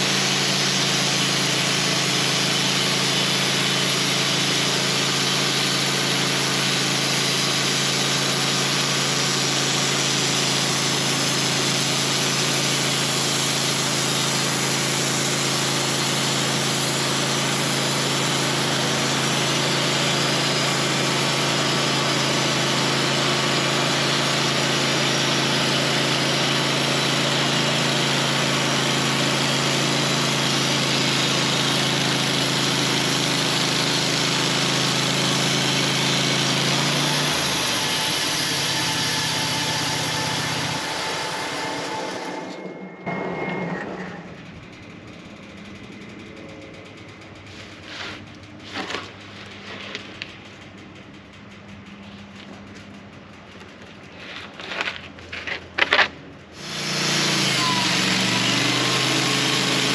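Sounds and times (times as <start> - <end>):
gasoline engine idling: 0.0 - 38.3, 44.2 - 59.9.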